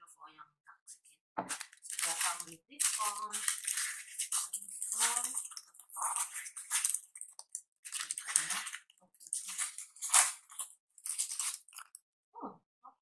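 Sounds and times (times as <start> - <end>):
plastic wrapping crinkling: 1.5 - 12.0.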